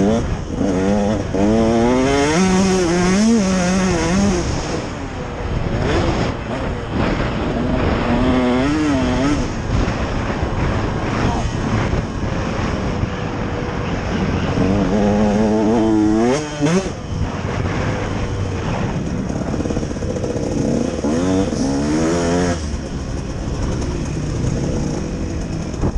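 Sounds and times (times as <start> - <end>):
dirt bike engine revving: 0.0 - 25.9
wind rushing over microphone: 0.0 - 25.9.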